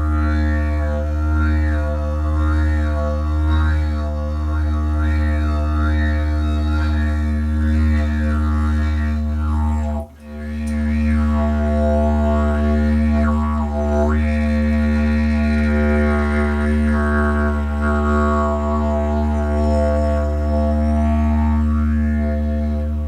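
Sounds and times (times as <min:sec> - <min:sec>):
didgeridoo droning: 0:00.0 - 0:23.0.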